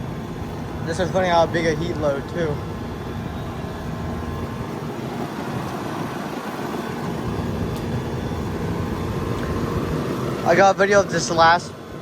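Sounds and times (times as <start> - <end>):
compressor humming: 0.0 - 12.0
condenser fan rushing: 0.0 - 12.0.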